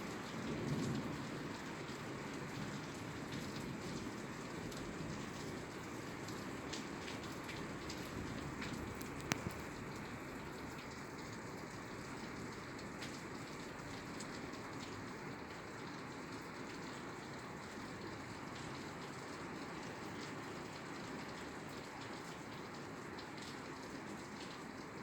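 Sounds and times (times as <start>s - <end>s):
rain on a roof: 0.0s - 25.0s.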